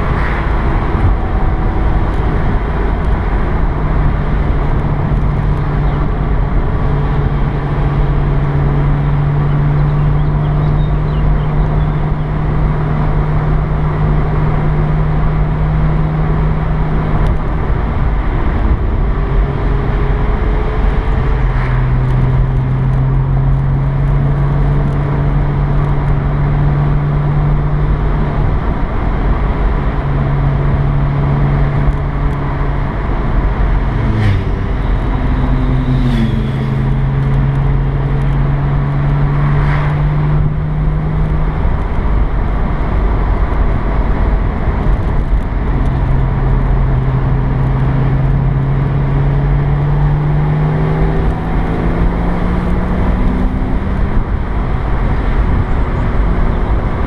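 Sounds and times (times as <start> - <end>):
car engine droning: 0.0 - 57.0
road and tyre noise: 0.0 - 57.0.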